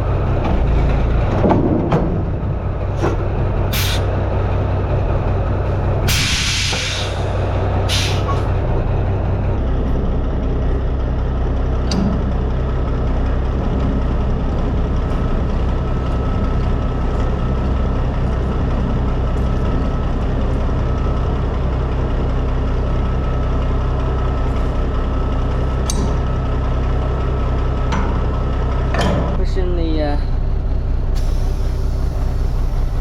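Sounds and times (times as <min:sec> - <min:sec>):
truck diesel engine idling: 0:00.0 - 0:33.0.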